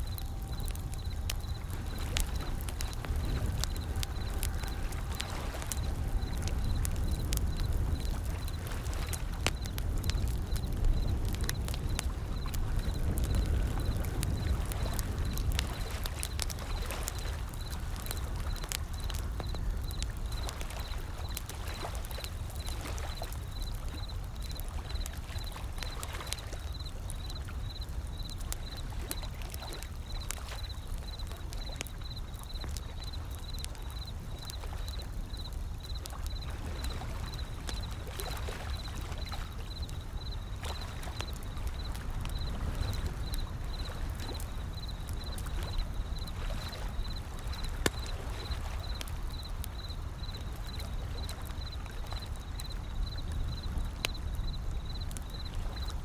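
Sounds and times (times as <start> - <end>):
gentle ocean waves: 0.0 - 56.0
wood fire crackling and popping: 0.0 - 56.0.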